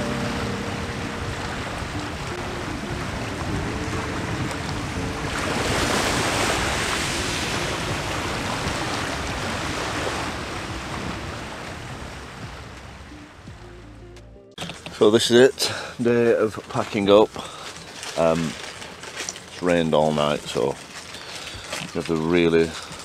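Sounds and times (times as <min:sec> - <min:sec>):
small waves breaking on shore: 0:00.0 - 0:13.4, 0:14.6 - 0:23.0.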